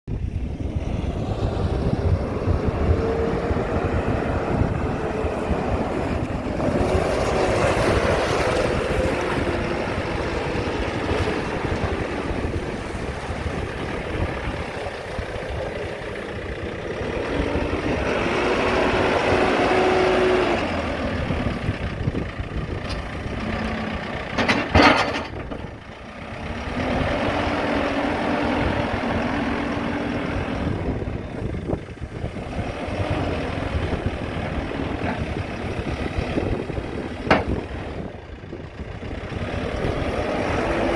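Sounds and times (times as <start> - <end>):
diesel engine working under load: 0.1 - 40.9.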